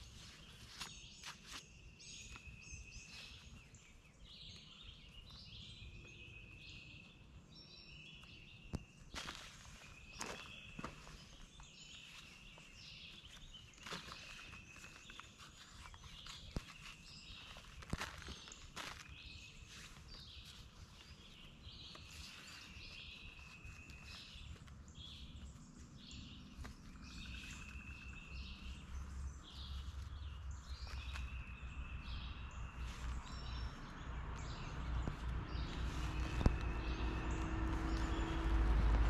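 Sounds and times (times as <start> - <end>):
bird chirps and trills: 0.0 - 39.0.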